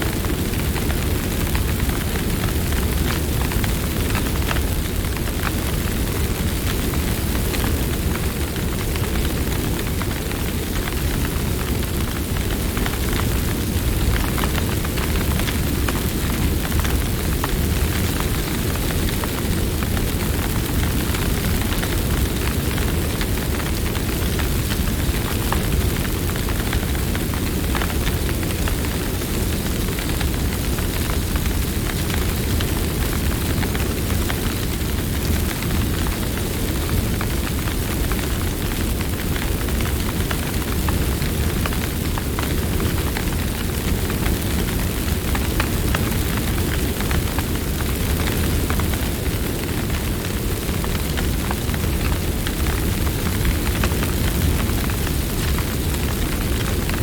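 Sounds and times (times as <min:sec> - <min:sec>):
campfire crackling: 0:00.1 - 0:57.0.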